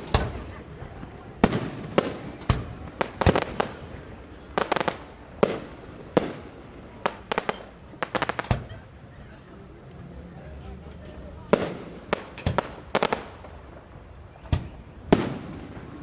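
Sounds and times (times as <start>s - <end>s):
fireworks bangs and crackling: 0.0s - 8.9s, 11.4s - 16.0s.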